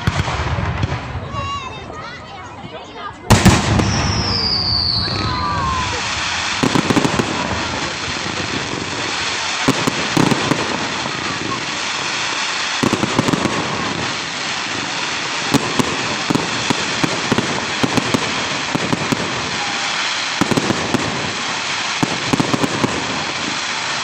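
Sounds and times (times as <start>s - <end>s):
fireworks sharp bangs: 0.0s - 2.2s, 3.2s - 24.0s
fireworks crackling hiss: 3.2s - 24.0s.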